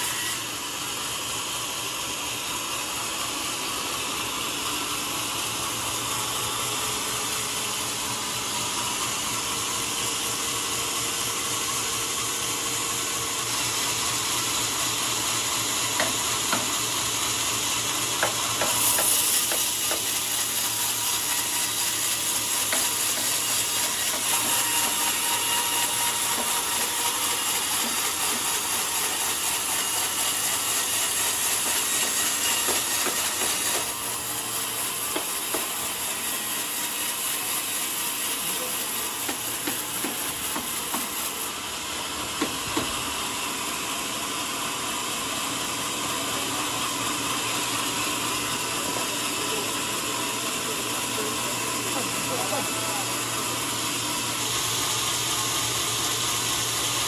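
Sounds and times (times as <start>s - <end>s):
band saw cutting a log: 0.0s - 57.0s.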